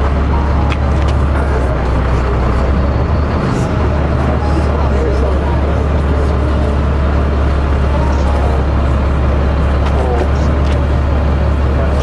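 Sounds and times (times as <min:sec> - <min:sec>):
crane engine droning: 0:00.0 - 0:12.0.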